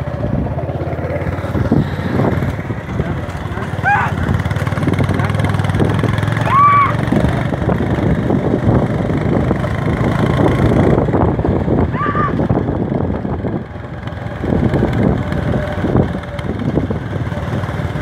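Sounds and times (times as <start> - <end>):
moving vehicle rumble: 0.0 - 18.0
wind noise on microphone: 1.5 - 3.2, 4.2 - 18.0.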